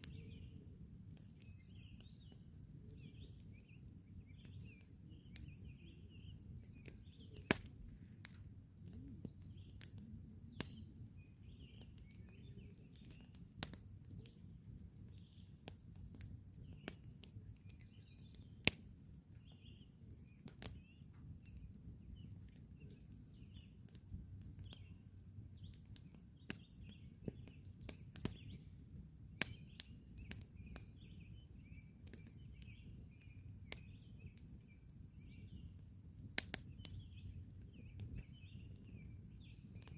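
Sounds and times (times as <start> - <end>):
birds chirping: 0.0 - 39.9
campfire crackling and popping: 0.0 - 39.9.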